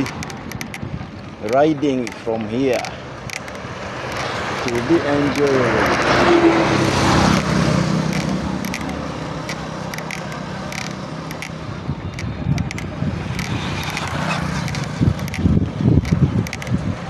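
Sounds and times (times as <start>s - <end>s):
light clicks and rattles: 0.0s - 17.0s
road rumble: 0.0s - 17.0s
wind buffeting microphone: 0.0s - 17.0s.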